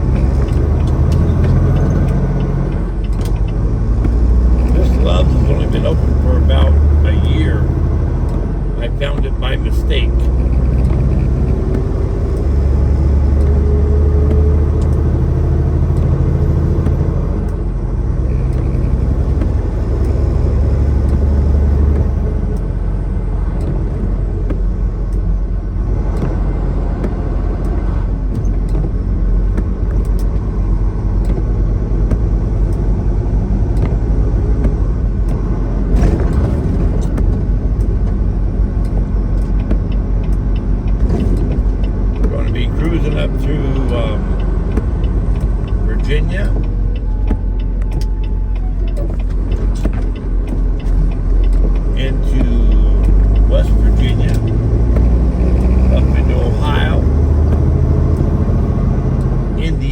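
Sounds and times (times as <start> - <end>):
road noise: 0.0 - 59.9
truck diesel engine running: 0.0 - 59.9.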